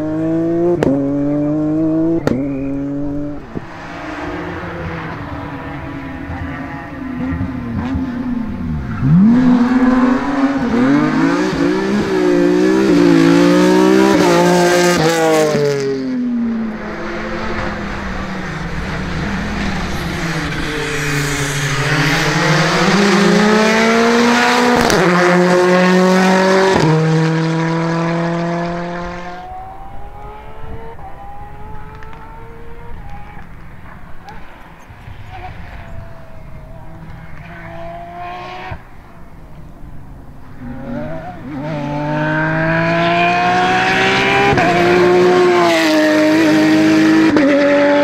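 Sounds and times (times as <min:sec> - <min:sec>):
rally car engine accelerating: 0:00.0 - 0:34.4, 0:40.5 - 0:48.0.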